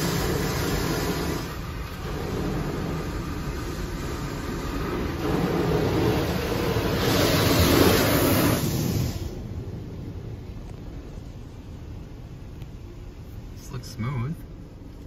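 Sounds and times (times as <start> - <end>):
car wash water spraying: 0.0 - 15.0.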